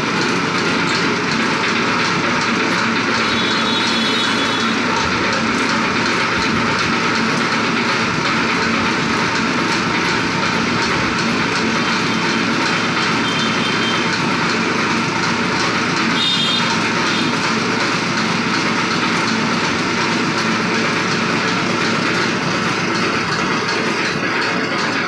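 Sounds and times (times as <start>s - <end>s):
oil expeller grinding and rattling: 0.0s - 25.0s.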